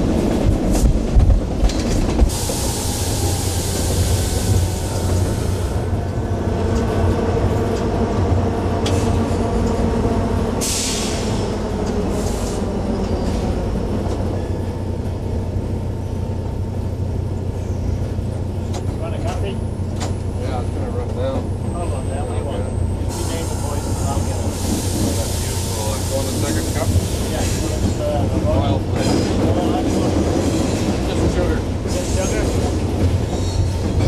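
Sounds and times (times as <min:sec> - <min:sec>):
wheel and rail rumble: 0:00.0 - 0:34.0.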